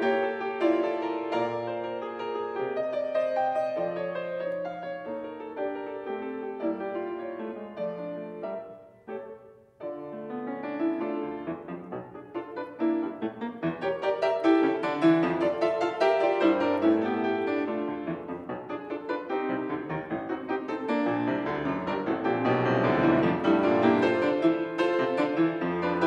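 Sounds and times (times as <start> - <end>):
solo grand piano piece: 0.0 - 26.0.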